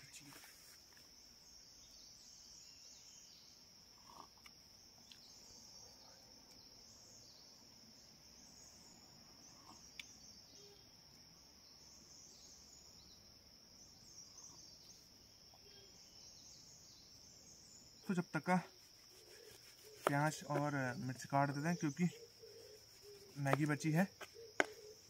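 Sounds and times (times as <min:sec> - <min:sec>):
insect chorus trilling: 0:00.0 - 0:25.0.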